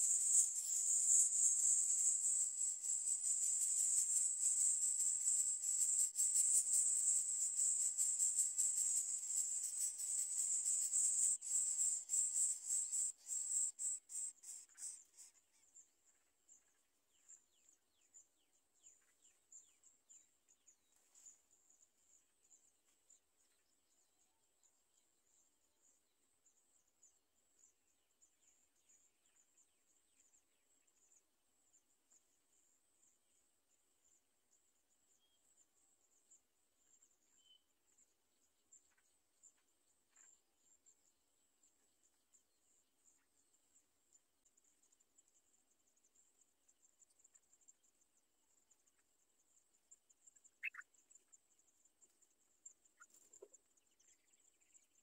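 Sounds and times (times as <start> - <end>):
faint bird chirps: 0.0 - 55.0.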